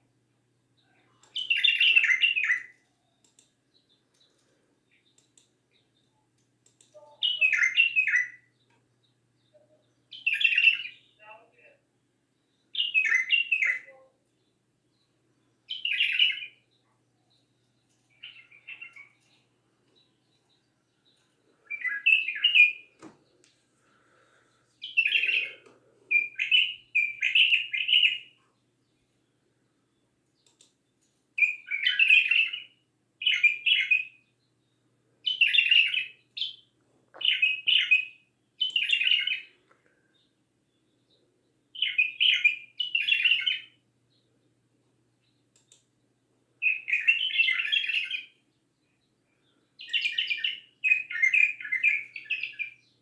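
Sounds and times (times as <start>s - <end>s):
bird singing warbled phrases: 0.7s - 53.0s.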